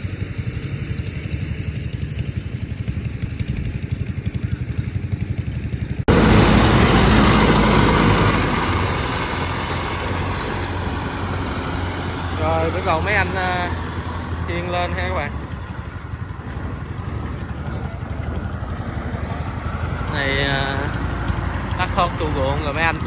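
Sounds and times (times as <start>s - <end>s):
farm machine engine chugging: 0.0s - 23.0s
loud rough engine: 0.0s - 23.0s.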